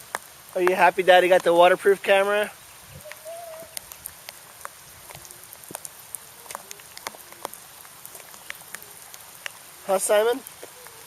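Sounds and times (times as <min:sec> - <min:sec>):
raindrops ticking close by: 0:00.0 - 0:11.0
steady rain hiss: 0:00.0 - 0:11.0.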